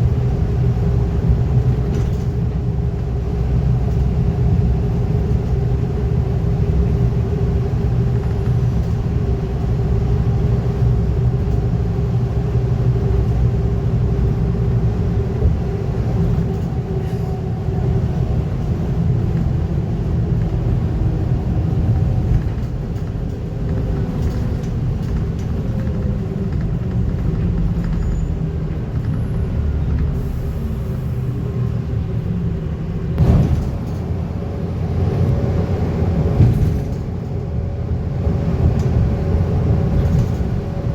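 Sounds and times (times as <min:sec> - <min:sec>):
bus engine rumbling: 0:00.0 - 0:40.9.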